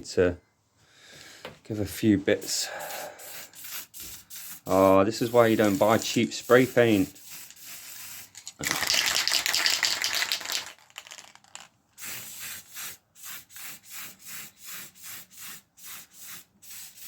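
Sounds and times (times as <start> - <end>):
spray paint hissing: 2.4 - 17.0
spray can rattling when shaken: 2.7 - 17.0.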